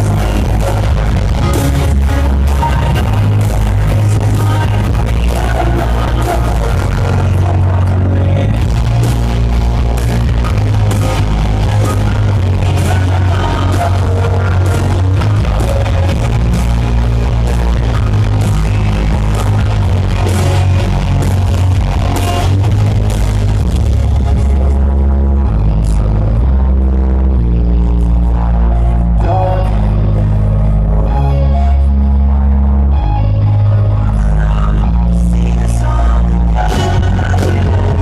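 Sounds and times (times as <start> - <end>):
live pop-rock band: 0.0 - 38.0.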